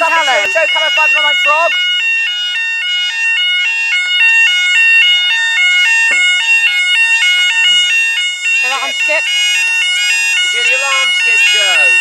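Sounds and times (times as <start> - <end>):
level crossing alarm warbling: 0.0 - 12.0.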